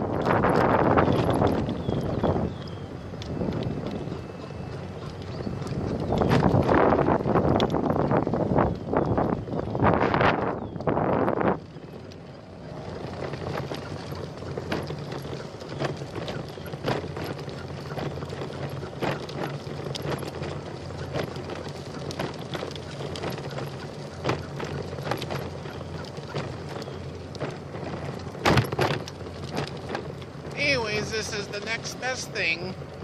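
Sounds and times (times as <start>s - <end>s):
bicycle clatter: 0.0s - 31.3s
bicycle clicks and rattles: 0.0s - 31.6s
bicycle rolling on trail: 0.0s - 33.0s.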